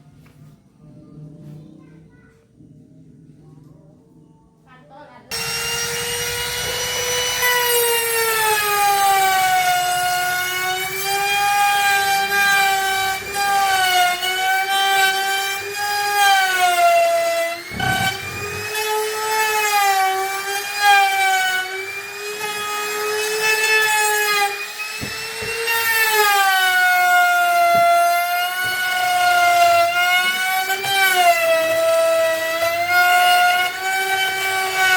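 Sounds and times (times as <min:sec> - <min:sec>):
power tool whining: 0:05.3 - 0:34.9.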